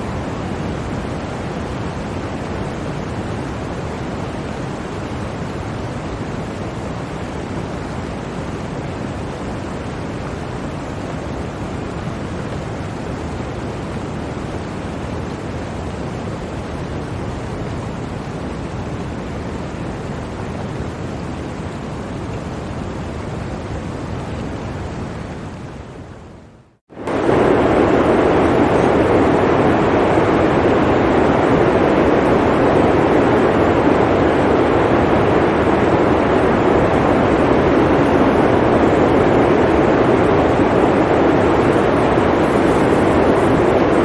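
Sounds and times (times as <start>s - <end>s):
blizzard wind rushing: 0.0s - 20.4s, 26.9s - 44.0s.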